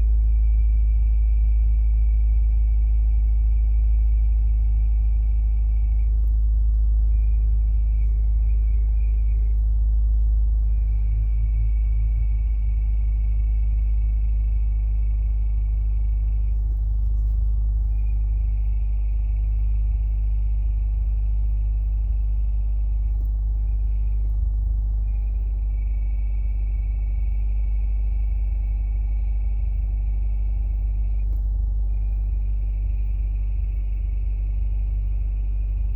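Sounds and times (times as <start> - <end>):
car engine idling: 4.8 - 35.9.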